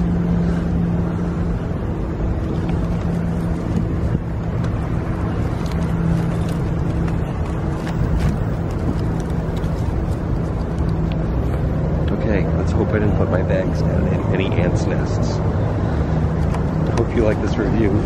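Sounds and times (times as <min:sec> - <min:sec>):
traffic rumble: 0:00.0 - 0:18.0
vehicle engine humming: 0:00.0 - 0:18.0.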